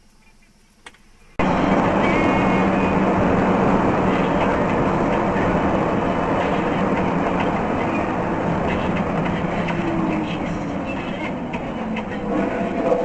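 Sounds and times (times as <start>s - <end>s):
vehicle rumbling and rattling: 0.0s - 13.0s.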